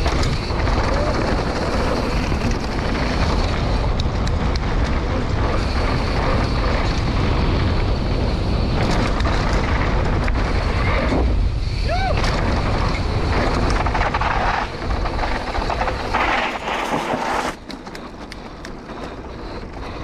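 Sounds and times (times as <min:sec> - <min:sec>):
bike tyres rolling on dirt: 0:00.0 - 0:20.0
wind rush on microphone: 0:00.0 - 0:20.0.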